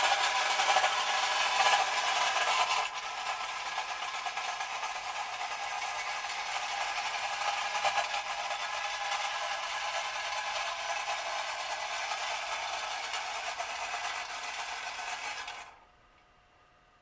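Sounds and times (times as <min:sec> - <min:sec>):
clockwork toy whirring rattle: 0:00.0 - 0:15.7.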